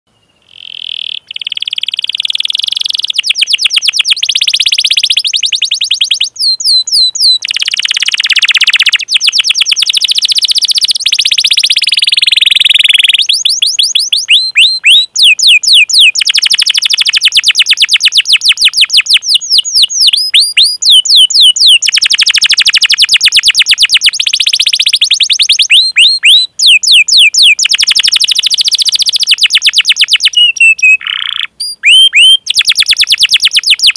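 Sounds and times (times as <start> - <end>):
canary singing trills and chirps: 0.1 - 33.9.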